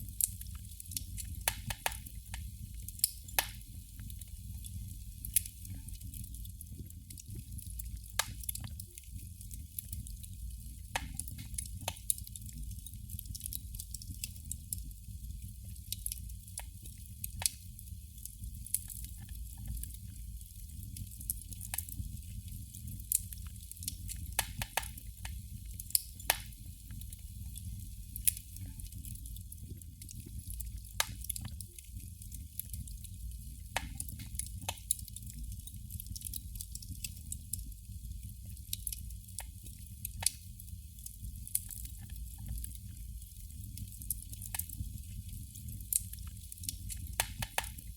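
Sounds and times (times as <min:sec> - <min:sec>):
candle flame crackling: 0:00.0 - 0:47.9.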